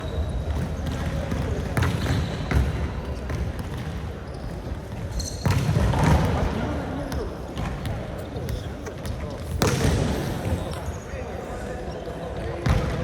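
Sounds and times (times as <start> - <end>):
busy hall rumble: 0.0 - 13.0.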